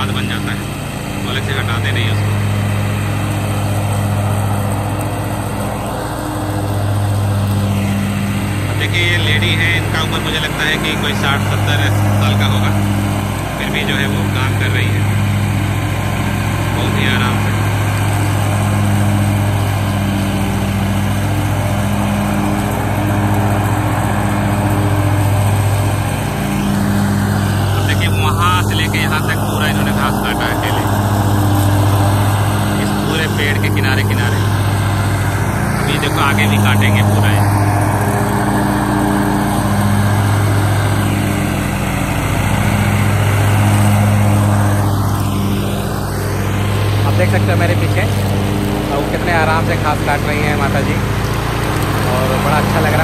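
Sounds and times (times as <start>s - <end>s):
riding mower engine: 0.0s - 53.0s.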